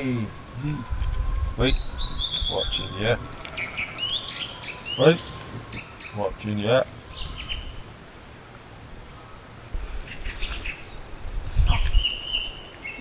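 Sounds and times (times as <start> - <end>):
low rumbling bumps: 0.0 - 12.4
birds chirping: 0.0 - 13.0.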